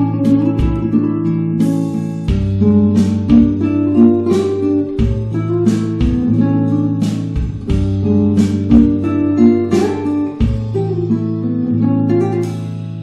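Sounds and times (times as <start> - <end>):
bass line: 0.0 - 11.6
acoustic guitar chords: 0.0 - 13.0.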